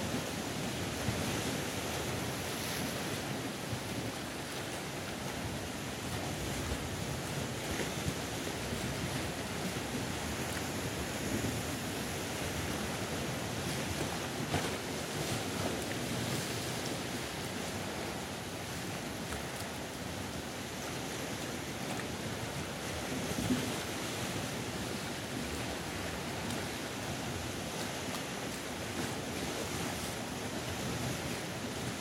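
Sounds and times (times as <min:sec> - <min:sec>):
sea surf breaking on rocks: 0:00.0 - 0:32.0.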